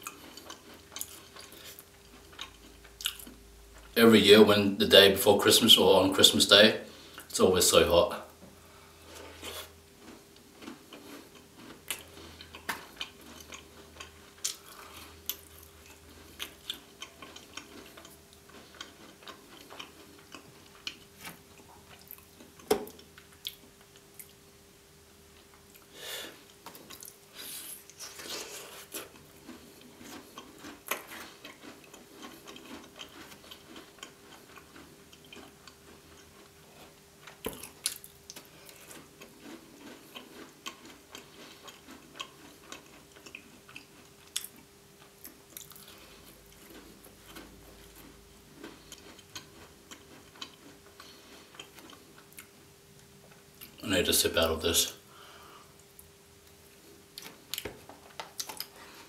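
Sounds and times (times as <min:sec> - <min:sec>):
chewing and crunching: 0:00.0 - 0:04.0, 0:09.0 - 0:24.4, 0:25.4 - 0:53.8, 0:55.7 - 0:59.0
faint steady hum: 0:00.0 - 0:59.0.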